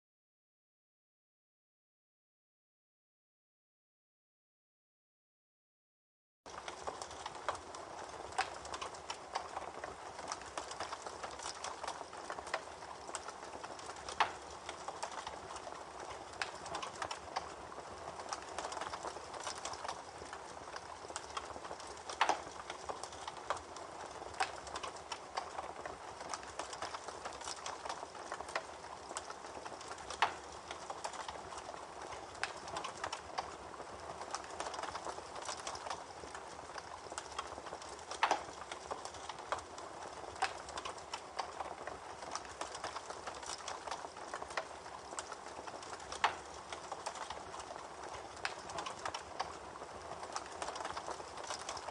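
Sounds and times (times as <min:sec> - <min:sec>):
campfire crackling and popping: 0:06.5 - 0:51.9.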